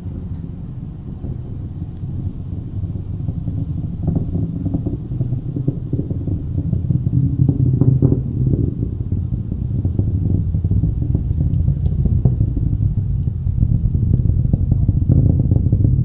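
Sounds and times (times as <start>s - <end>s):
distant rocket launch rumble: 0.0s - 16.0s.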